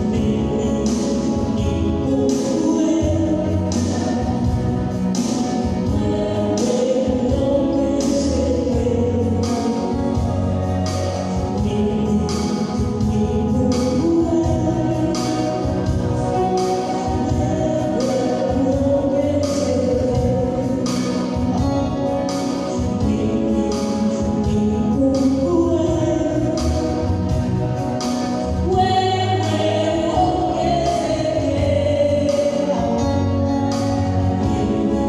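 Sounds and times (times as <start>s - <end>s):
band with beat and bass: 0.0s - 35.0s.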